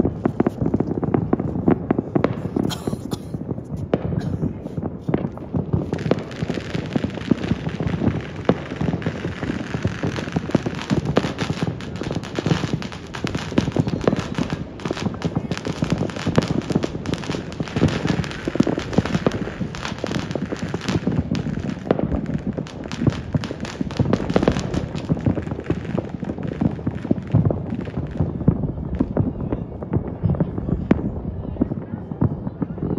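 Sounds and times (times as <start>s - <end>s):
fireworks crackling and banging: 0.0s - 32.9s.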